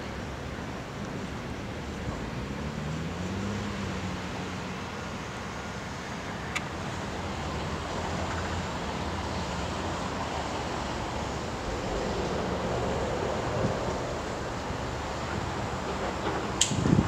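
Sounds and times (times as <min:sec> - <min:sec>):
distant road traffic: 0:00.0 - 0:17.0
wind: 0:00.0 - 0:17.0.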